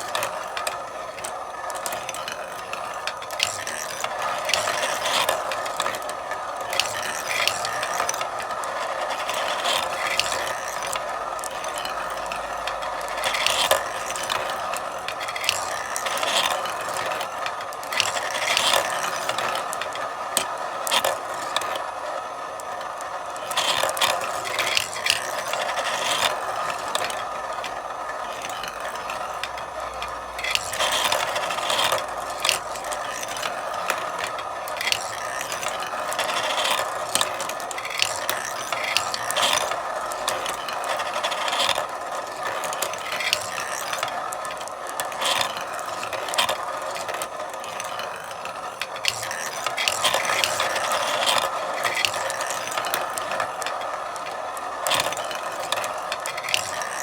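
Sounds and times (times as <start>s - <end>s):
marbles clicking together: 0.0s - 57.0s
marbles rolling along a track: 0.0s - 57.0s.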